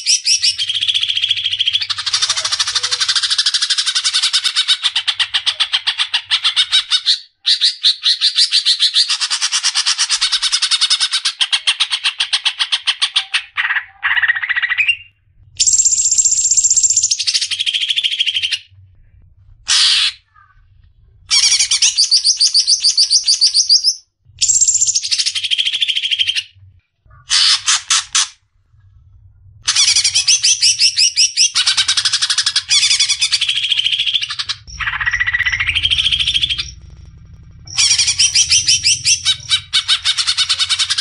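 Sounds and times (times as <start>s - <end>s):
bird singing fast repeated notes: 0.0s - 18.7s, 21.3s - 26.6s, 29.7s - 41.0s.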